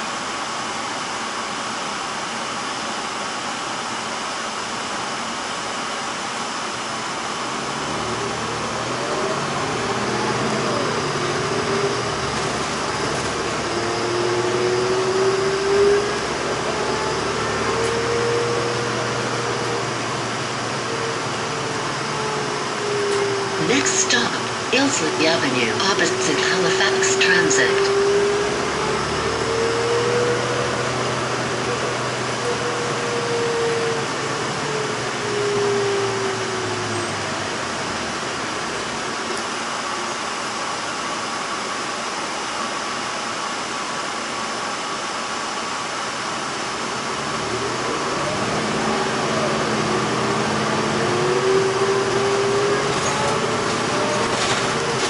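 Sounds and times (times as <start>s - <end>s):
bus engine and road rumble: 0.0s - 55.0s
faint drivetrain whine: 0.0s - 55.0s.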